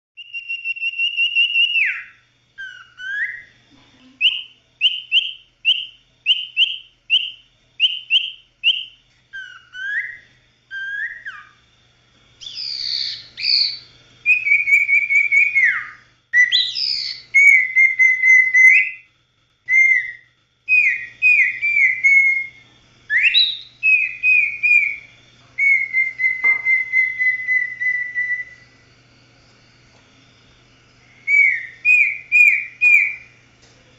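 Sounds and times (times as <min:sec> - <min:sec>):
bird singing clear whistles: 0:00.2 - 0:03.6, 0:04.2 - 0:11.6, 0:12.4 - 0:19.1, 0:19.7 - 0:28.8, 0:31.2 - 0:33.4.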